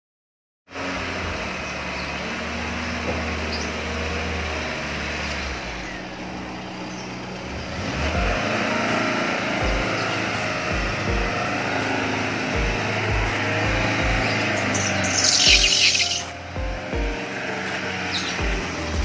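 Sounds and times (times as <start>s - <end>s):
car engine running: 0.7s - 19.0s.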